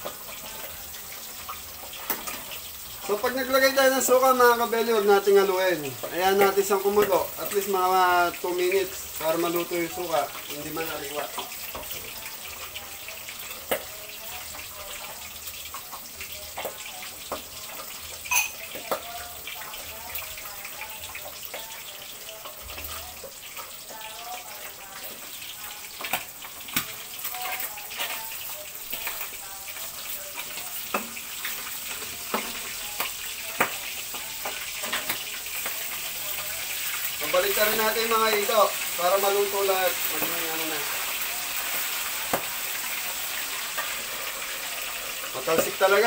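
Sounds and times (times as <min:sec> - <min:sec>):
fish frying in hot oil: 0:00.0 - 0:46.0.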